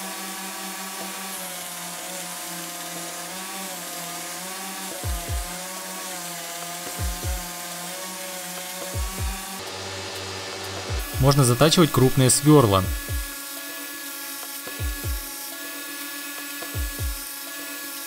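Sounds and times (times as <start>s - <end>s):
abrasive belt grinding metal: 0.0s - 18.0s
belt grinder hum: 0.0s - 18.0s.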